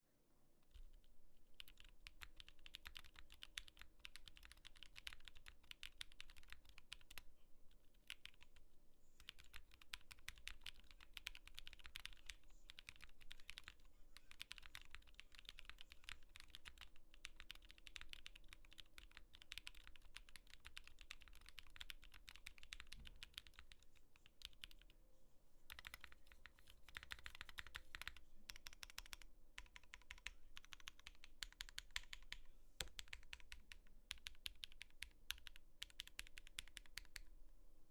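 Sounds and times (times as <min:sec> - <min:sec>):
muted keyboard typing: 0:00.7 - 0:08.6, 0:09.2 - 0:24.9, 0:25.7 - 0:37.3.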